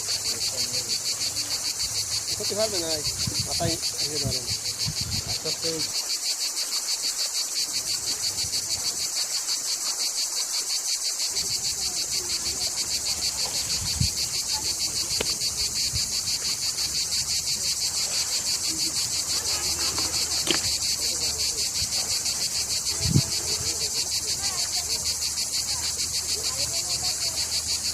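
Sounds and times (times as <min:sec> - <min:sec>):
insects chirring: 0:00.0 - 0:27.9.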